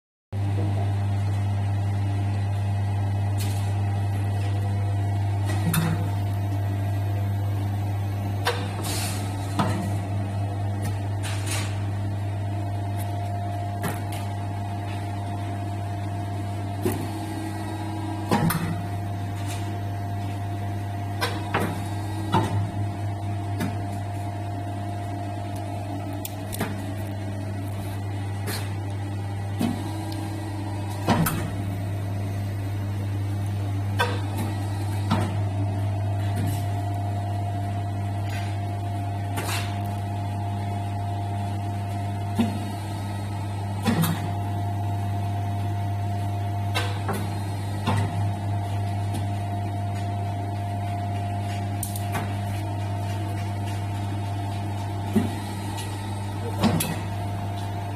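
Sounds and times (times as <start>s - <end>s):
welding machine humming: 0.4s - 57.9s.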